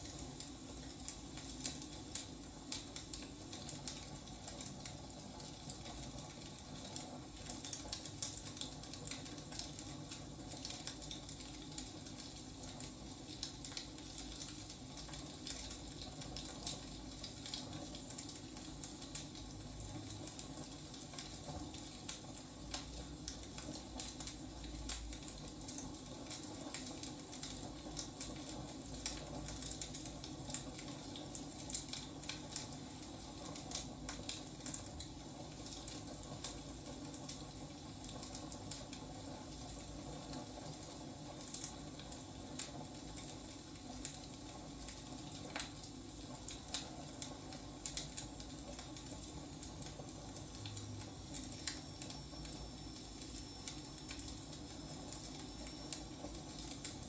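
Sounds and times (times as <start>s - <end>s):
soft steady hiss: 0.0s - 57.0s
wood fire crackling: 0.0s - 57.0s.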